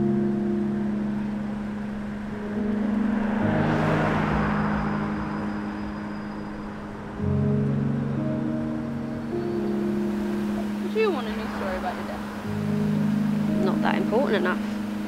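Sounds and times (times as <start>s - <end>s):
car passing by: 1.0s - 15.0s.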